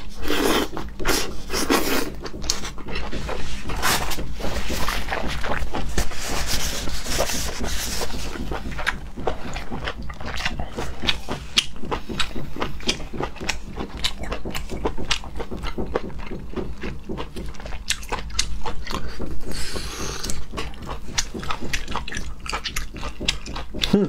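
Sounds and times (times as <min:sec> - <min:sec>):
chewing and biting: 0:00.0 - 0:24.0.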